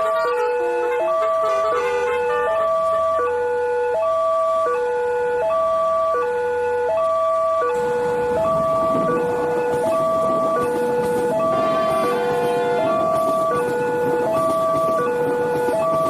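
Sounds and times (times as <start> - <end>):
level-crossing two-tone siren: 0.0 - 16.0.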